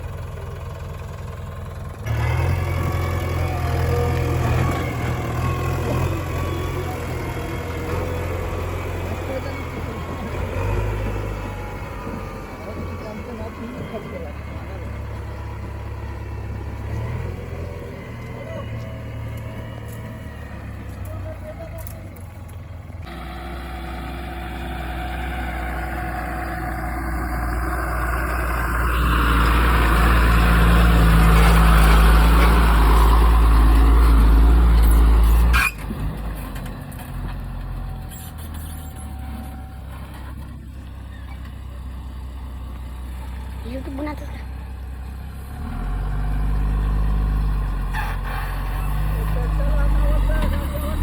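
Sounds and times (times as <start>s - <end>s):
backhoe diesel engine revving: 0.0s - 51.0s.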